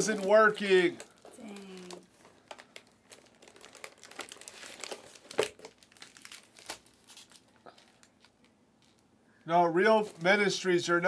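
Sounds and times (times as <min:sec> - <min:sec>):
light crinkling rustle: 0:00.0 - 0:09.1.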